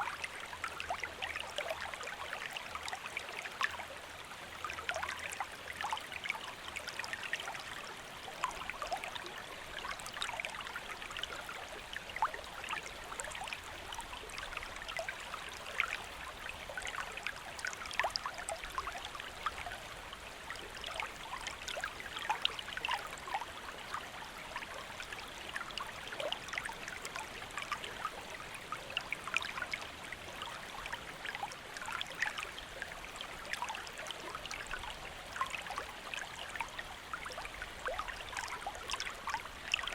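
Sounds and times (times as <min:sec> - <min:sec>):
shallow stream flowing: 0:00.0 - 0:39.9.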